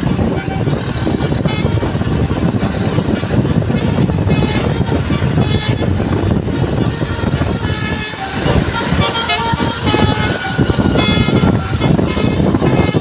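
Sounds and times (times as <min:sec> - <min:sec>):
bus engine rumble: 0:00.0 - 0:13.0
bus musical horn: 0:00.0 - 0:13.0.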